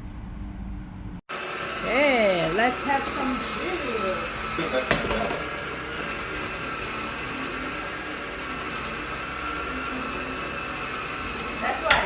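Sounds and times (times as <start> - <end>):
electric motor whining: 1.3 - 12.0.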